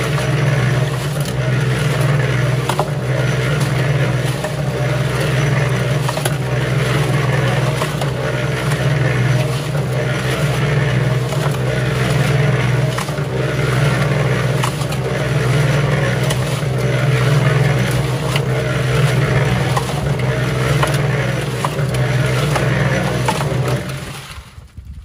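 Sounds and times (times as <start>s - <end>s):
cement mixer motor hum: 0.0s - 25.0s
clumps knocking and scraping: 0.0s - 25.0s
concrete tumbling in drum: 0.0s - 25.0s.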